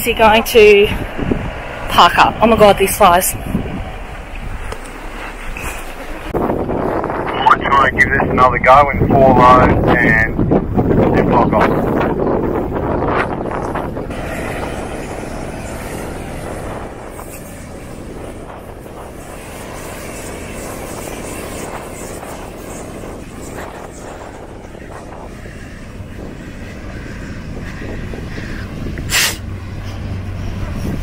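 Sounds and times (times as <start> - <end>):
car engine working hard: 0.0 - 31.0.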